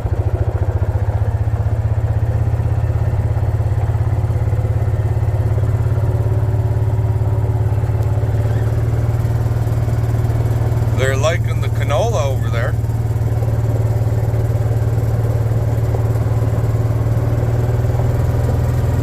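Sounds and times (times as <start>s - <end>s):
vehicle engine running steadily: 0.0s - 19.0s.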